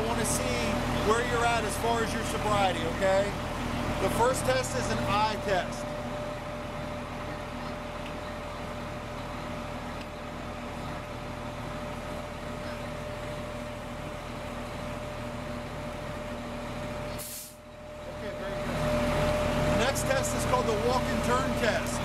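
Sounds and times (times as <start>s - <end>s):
vehicle idling hum: 0.0s - 22.0s.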